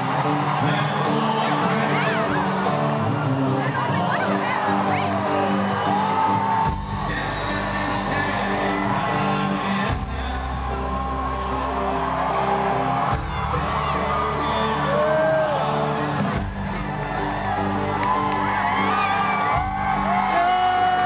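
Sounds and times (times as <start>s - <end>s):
crowd whooping: 0.0s - 21.0s
live country band playing: 0.0s - 21.0s
male lead vocal: 0.0s - 21.0s.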